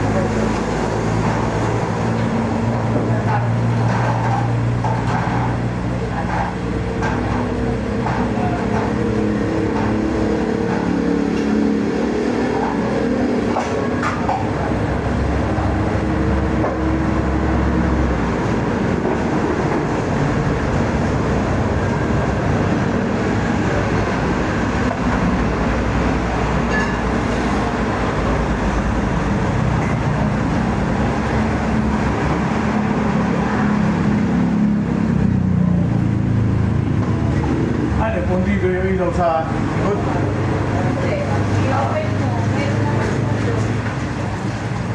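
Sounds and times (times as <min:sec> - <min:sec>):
road and wind noise: 0:00.0 - 0:44.9
vehicle engine hum: 0:00.0 - 0:44.9.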